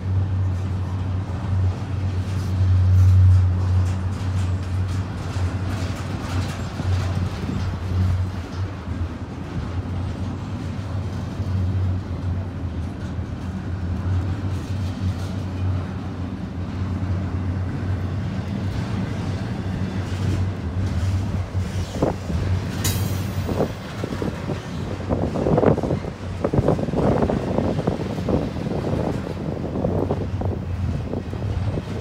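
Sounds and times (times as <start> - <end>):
freight train wheels rumbling on rail: 0.0 - 32.0.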